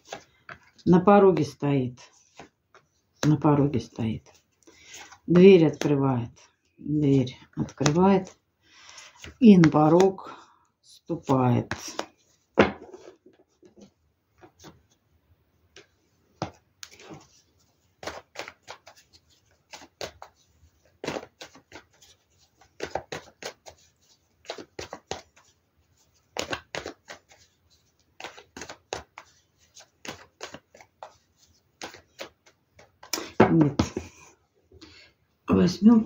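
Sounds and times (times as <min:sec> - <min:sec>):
cards being shuffled: 0:00.0 - 0:06.5, 0:07.6 - 0:10.2, 0:11.1 - 0:15.0, 0:15.7 - 0:34.3.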